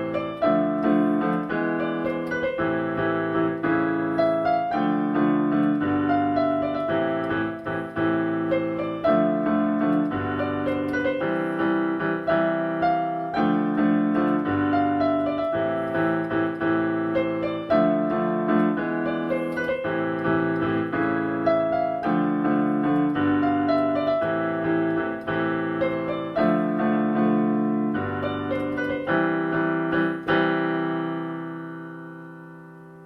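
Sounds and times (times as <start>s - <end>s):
solo piano playing: 0.0s - 33.0s.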